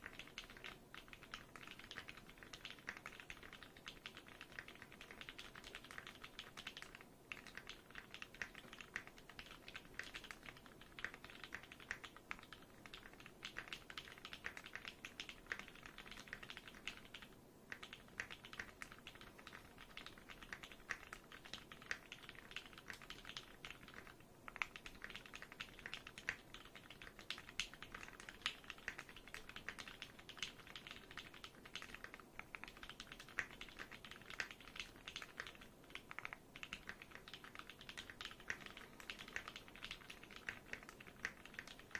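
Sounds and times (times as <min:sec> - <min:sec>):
mechanical keyboard typing: 0:00.0 - 0:41.9.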